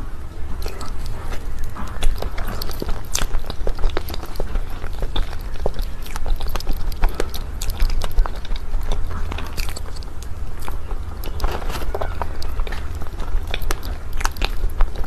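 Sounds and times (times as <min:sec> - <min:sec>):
steady low hum: 0:00.0 - 0:15.0
mouth chewing wet clicks: 0:00.2 - 0:15.0.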